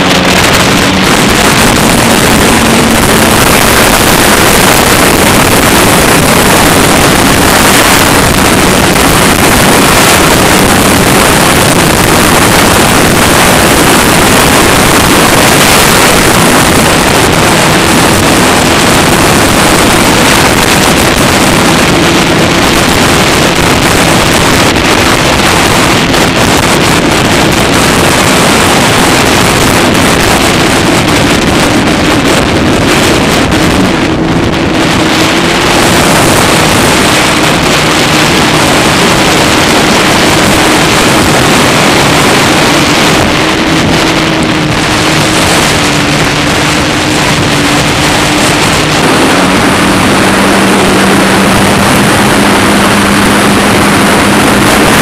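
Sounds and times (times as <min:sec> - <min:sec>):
motorboat engine drone: 0:00.0 - 0:55.0
rushing water: 0:00.0 - 0:55.0
wind buffeting microphone: 0:00.0 - 0:55.0.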